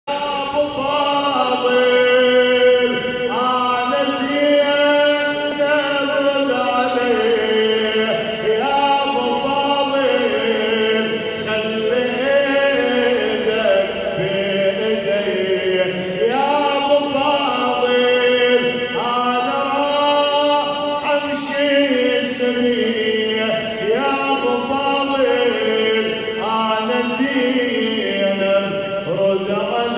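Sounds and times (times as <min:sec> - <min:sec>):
man chanting into a microphone: 0:00.1 - 0:29.9.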